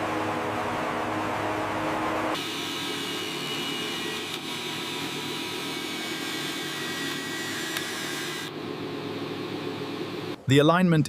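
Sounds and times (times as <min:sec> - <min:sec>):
factory machine whirring: 0:00.0 - 0:10.4
faint high machine whines: 0:00.0 - 0:10.4.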